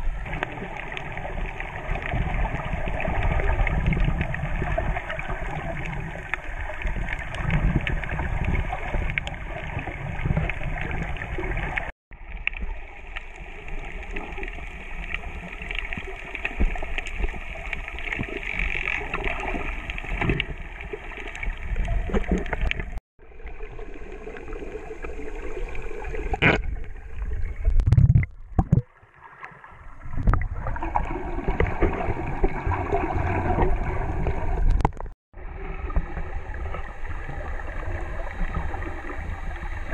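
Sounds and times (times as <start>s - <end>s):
underwater rush of water: 0.0s - 39.9s.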